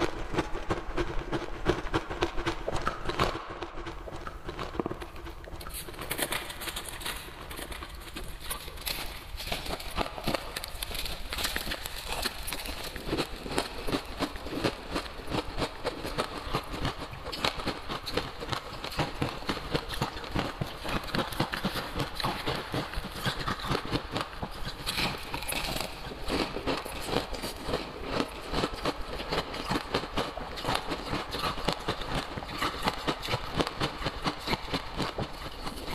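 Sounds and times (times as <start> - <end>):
ice being chewed: 4.2 - 35.9.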